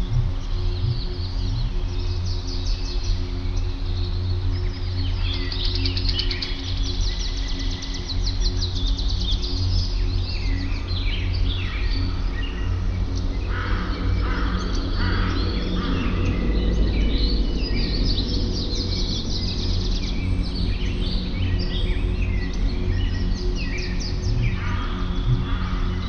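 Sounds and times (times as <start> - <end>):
birds chirping and trilling: 0.0 - 26.0
low background rumble: 0.0 - 26.0.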